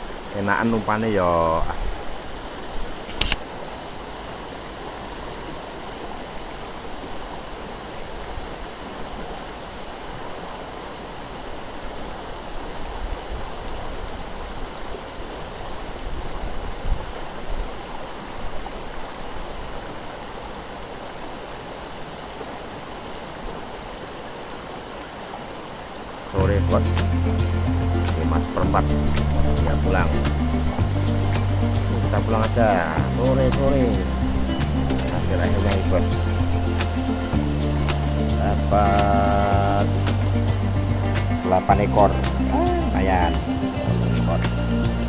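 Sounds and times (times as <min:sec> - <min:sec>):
river current rushing: 0:00.0 - 0:45.0.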